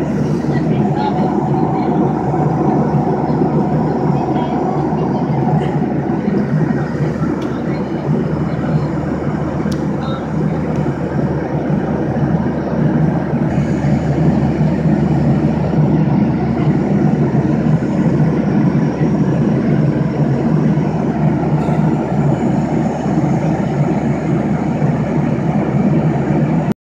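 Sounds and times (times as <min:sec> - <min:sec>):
jet airliner cabin noise: 0:00.0 - 0:26.8.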